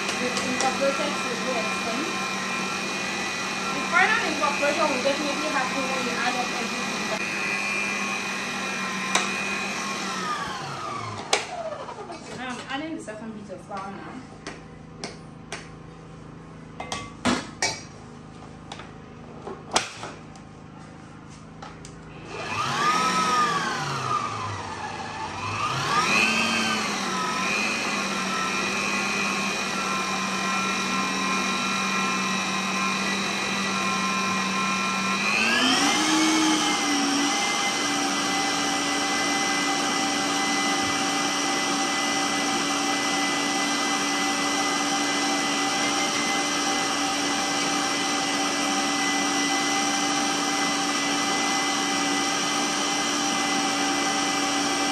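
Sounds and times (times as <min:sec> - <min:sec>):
stand mixer motor running: 0:00.0 - 0:12.3, 0:22.1 - 0:54.9.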